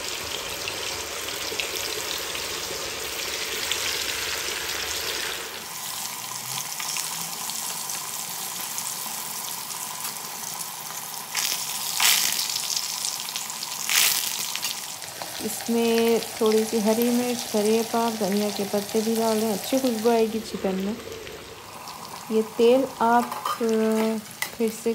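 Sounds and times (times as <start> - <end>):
chicken sizzling in hot oil: 0.0 - 24.9.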